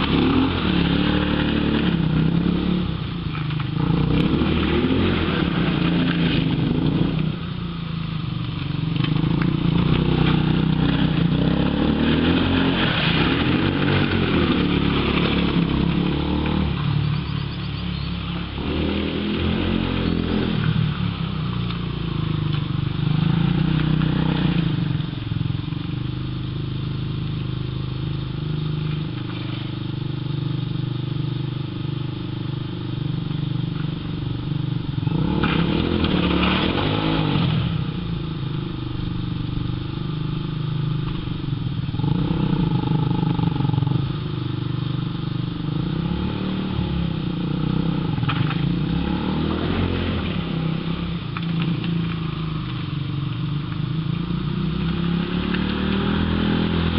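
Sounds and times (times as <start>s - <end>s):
quad bike engine revving: 0.0s - 56.9s.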